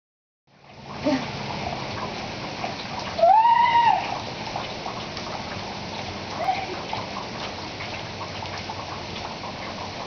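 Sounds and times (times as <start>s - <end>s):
rain splashing on pavement: 0.6s - 10.0s.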